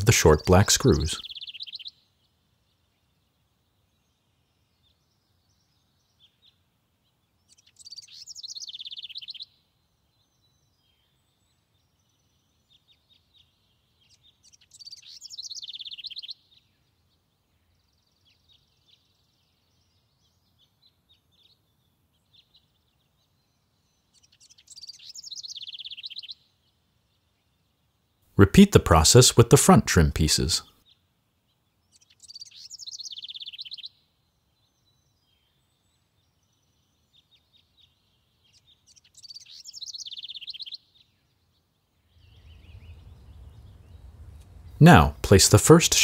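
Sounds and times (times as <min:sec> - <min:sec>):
faint bird chirps: 0:00.0 - 0:28.2, 0:30.6 - 0:46.0
songbird singing: 0:00.0 - 0:46.0.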